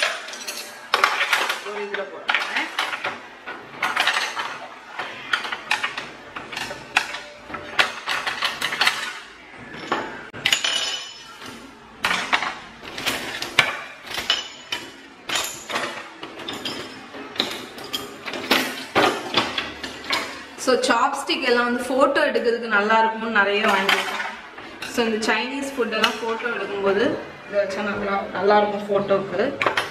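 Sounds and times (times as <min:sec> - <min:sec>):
utensils clinking and clattering: 0:00.0 - 0:21.0, 0:23.4 - 0:28.0, 0:28.6 - 0:29.9.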